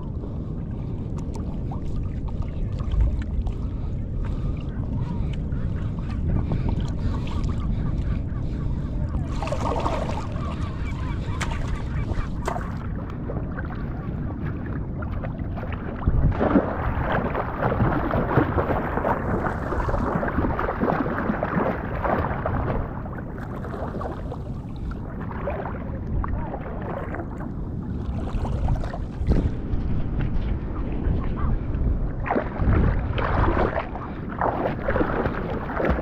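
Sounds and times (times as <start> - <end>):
rough sea water splashing: 0.0 - 36.0.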